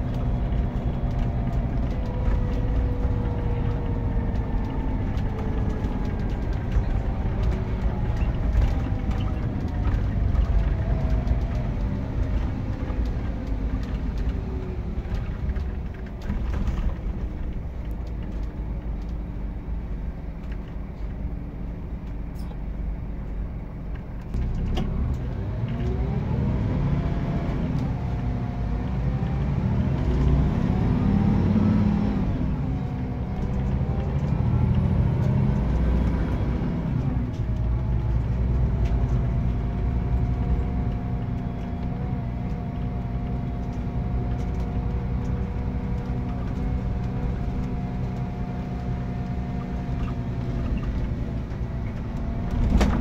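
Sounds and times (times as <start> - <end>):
diesel bus engine running: 0.0 - 53.0.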